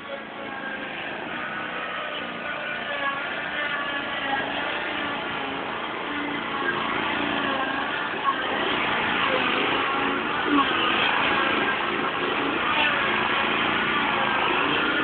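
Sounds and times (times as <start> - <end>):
ride-on lawn mower engine running: 0.0 - 15.0.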